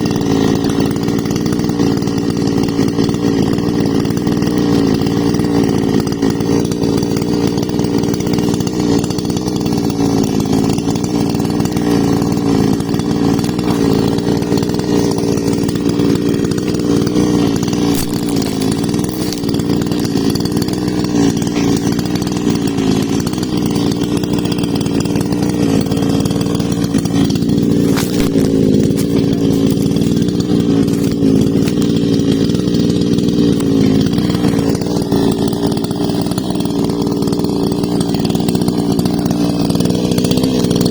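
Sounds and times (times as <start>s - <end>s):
chainsaw cutting into tree: 0.0s - 40.9s.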